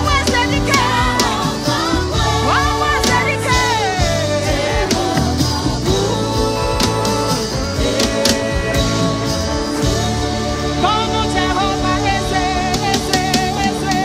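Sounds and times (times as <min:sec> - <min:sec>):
drum kit: 0:00.0 - 0:14.0
gospel band music: 0:00.0 - 0:14.0
keyboard playing: 0:00.0 - 0:14.0.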